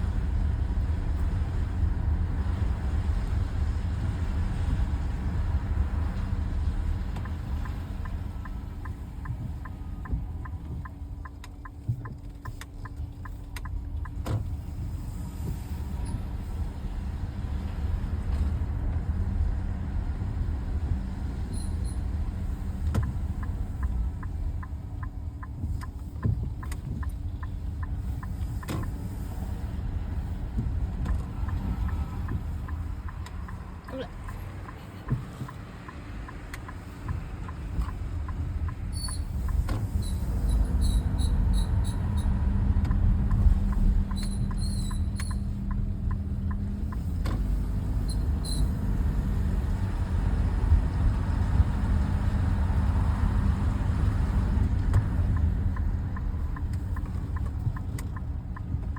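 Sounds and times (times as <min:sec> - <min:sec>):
road and tyre rumble: 0:00.0 - 0:58.9.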